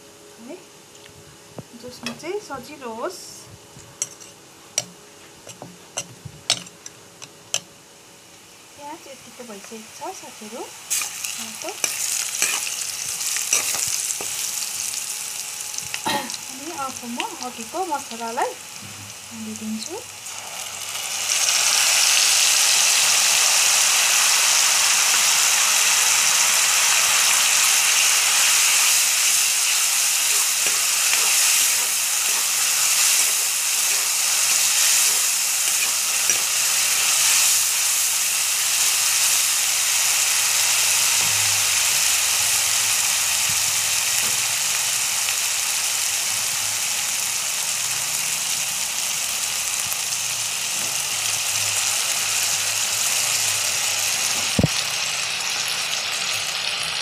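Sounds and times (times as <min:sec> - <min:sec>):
spice paste sizzling in hot oil: 0:01.8 - 0:57.0.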